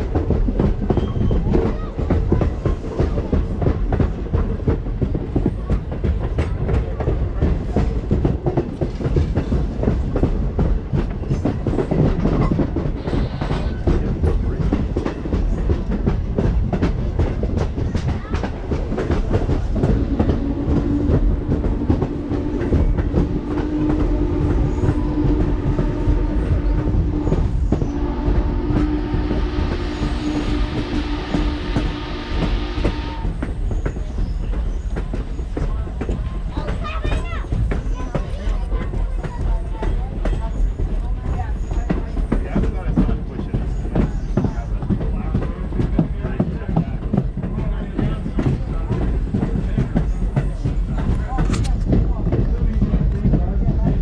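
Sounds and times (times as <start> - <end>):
train coach low rumble: 0.0 - 54.0.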